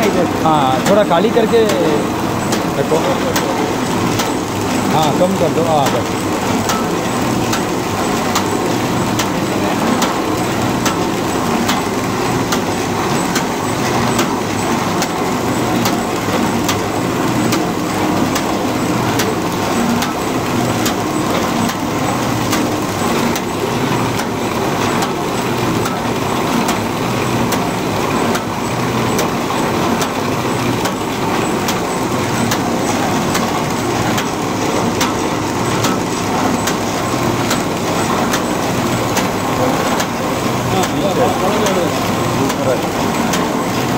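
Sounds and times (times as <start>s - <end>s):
machine mechanical clatter: 0.0s - 43.9s.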